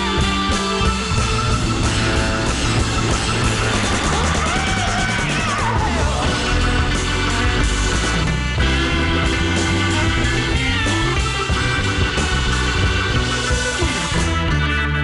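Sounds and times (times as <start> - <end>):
rock music on radio: 0.0 - 15.0.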